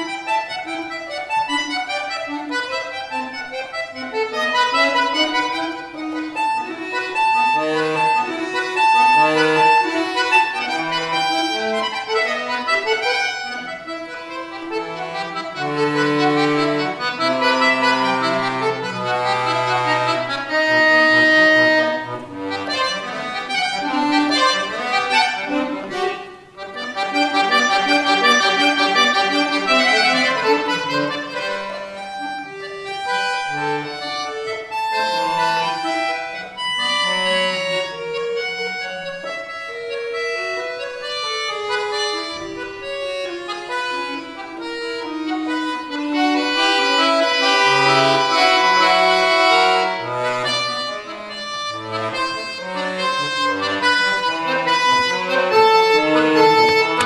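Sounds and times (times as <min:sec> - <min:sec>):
solo button accordion playing: 0:00.0 - 0:57.0.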